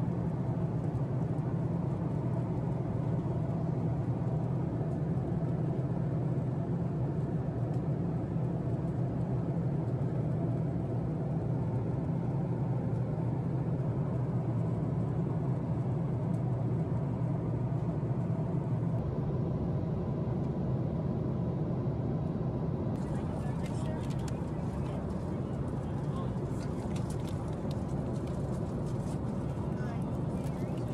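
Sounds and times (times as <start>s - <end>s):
airplane cabin drone: 0.0s - 30.9s
faint steady hums: 0.0s - 30.9s.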